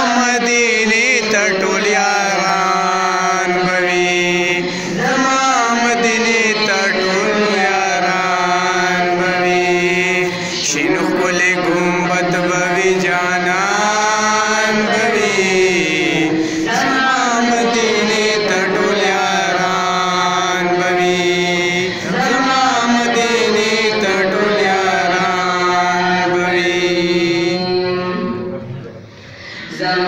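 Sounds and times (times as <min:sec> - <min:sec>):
young man chanting: 0:00.0 - 0:29.0.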